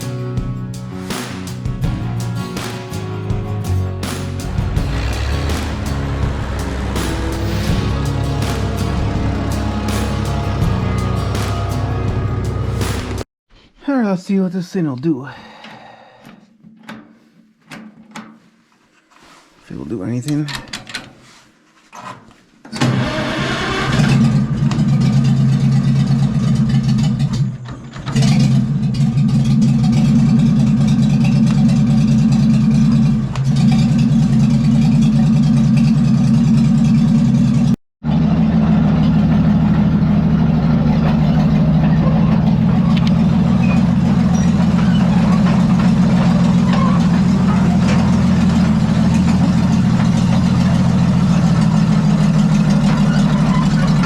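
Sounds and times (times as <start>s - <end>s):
tractor engine starting and running: 0.0s - 13.2s, 22.7s - 54.0s.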